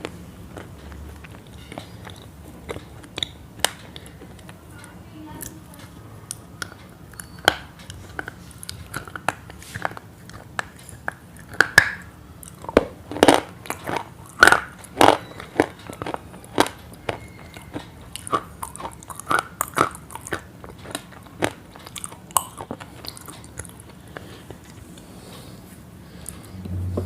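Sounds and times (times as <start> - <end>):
crisp food crunching while chewed: 0.0 - 4.6, 6.6 - 25.1.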